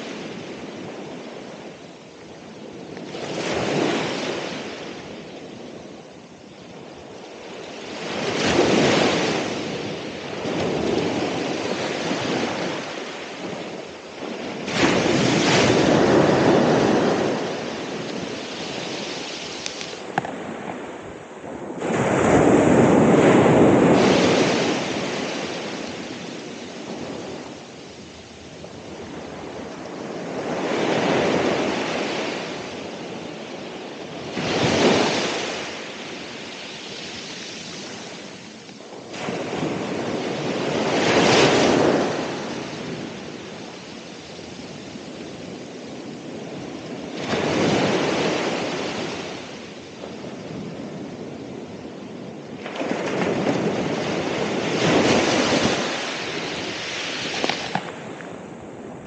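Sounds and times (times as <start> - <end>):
hiss of surf: 0.0 - 59.0
ocean waves breaking on shore: 0.0 - 59.0.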